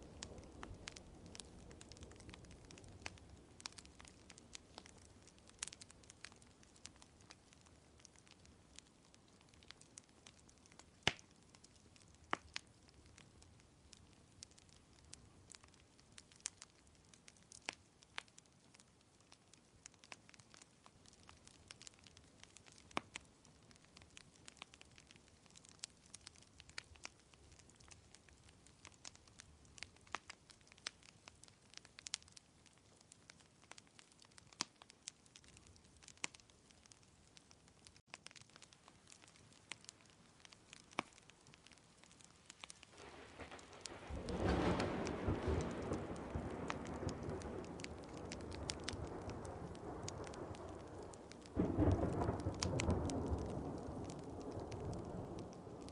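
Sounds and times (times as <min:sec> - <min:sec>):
faint steady hiss: 0:00.0 - 0:55.9
wood fire crackling: 0:00.0 - 0:55.9.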